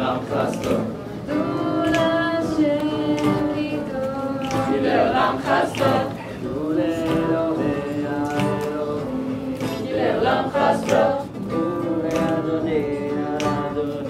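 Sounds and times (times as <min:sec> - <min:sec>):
acoustic guitar: 0:00.0 - 0:14.0
group singing in held notes: 0:00.0 - 0:14.0.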